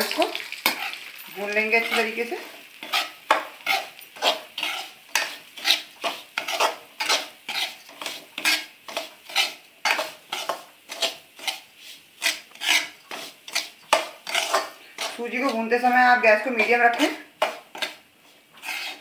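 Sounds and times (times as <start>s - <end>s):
spatula scraping metal pan: 0.0s - 19.0s.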